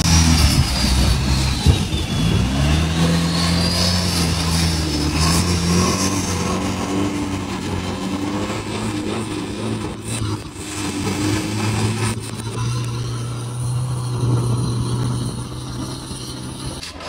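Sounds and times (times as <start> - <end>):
boat diesel engine droning: 0.0 - 17.0.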